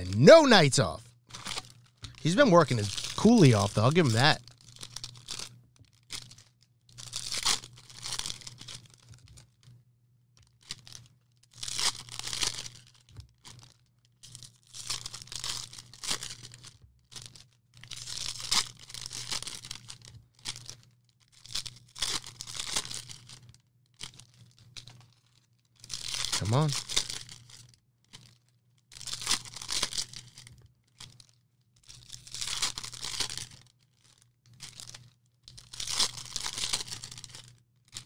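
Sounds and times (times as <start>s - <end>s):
packaging torn and crinkled: 1.3s - 9.7s, 10.6s - 38.0s.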